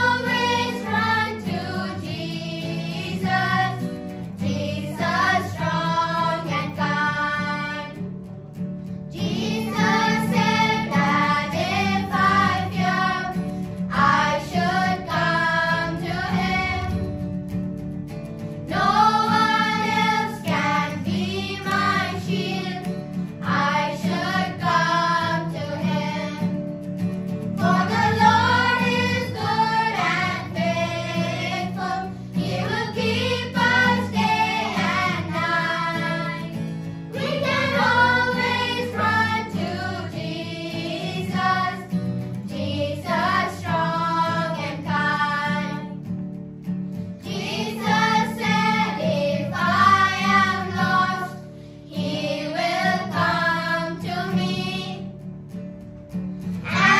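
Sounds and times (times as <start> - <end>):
children's choir singing: 0.0 - 8.1, 9.1 - 17.2, 18.6 - 26.6, 27.6 - 46.1, 47.2 - 55.2, 56.6 - 56.9.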